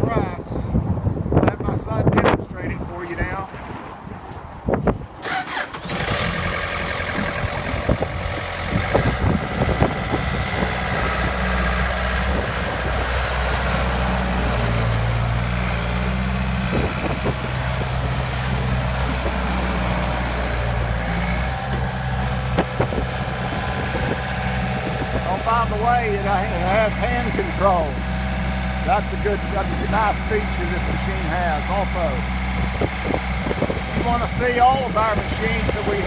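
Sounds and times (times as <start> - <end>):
diesel engine starting and running: 2.8 - 36.0.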